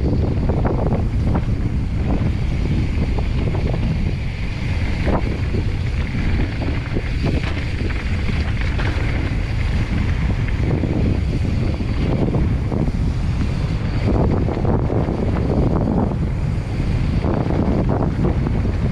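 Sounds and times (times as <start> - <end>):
bike rolling on dirt trail: 0.0 - 18.9
wind buffeting microphone: 0.0 - 18.9.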